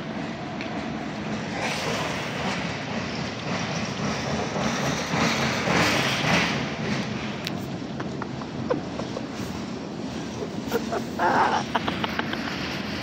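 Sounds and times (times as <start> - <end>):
freight train cars rolling past: 0.0 - 13.0.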